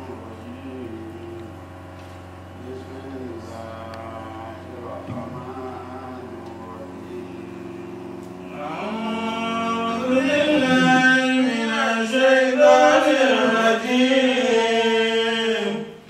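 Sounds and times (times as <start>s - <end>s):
man chanting: 0.0s - 1.6s, 2.6s - 16.0s.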